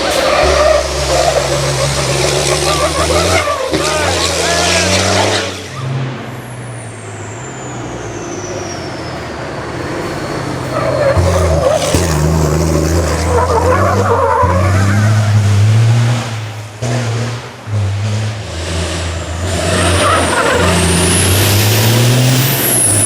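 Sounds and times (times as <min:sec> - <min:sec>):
heavy rushing noise: 0:00.0 - 0:13.3, 0:16.0 - 0:23.0
truck engine under load: 0:00.0 - 0:23.0.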